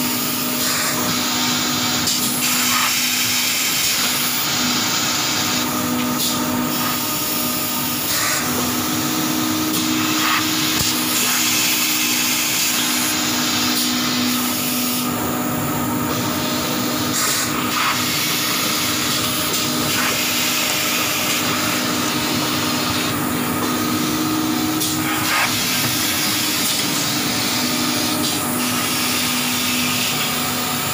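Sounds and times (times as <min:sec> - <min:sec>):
machine humming: 0:00.0 - 0:30.9.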